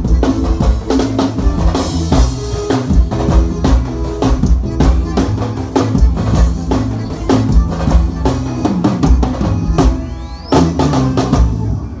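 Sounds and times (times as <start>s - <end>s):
bass: 0.0s - 12.0s
drum kit beat: 0.0s - 12.0s
keyboard chords: 0.0s - 12.0s.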